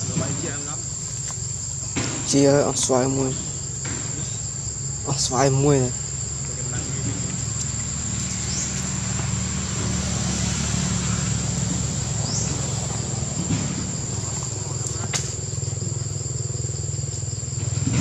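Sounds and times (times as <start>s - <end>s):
crickets droning: 0.0s - 18.0s
low mechanical hum: 0.0s - 18.0s.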